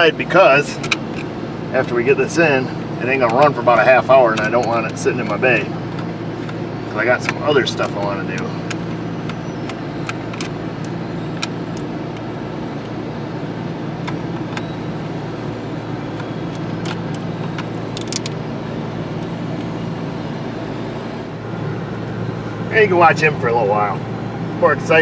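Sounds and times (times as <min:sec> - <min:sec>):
diesel machinery drone: 0:00.0 - 0:25.0.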